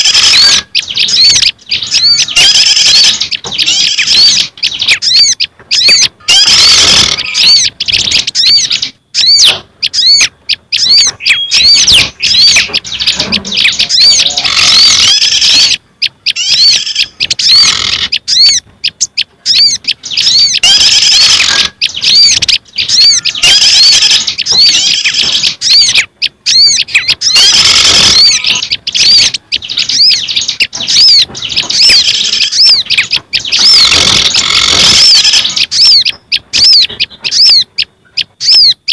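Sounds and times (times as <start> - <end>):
high-pitched songbird chirps: 0.0 - 38.9.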